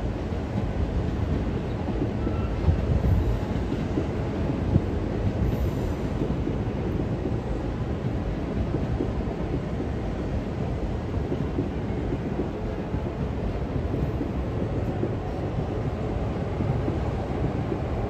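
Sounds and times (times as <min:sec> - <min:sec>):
electric train rumbling past: 0:00.0 - 0:18.0.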